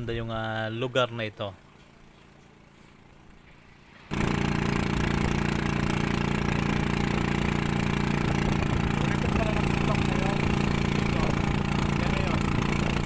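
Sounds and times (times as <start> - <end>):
small boat engine running: 1.6 - 13.0.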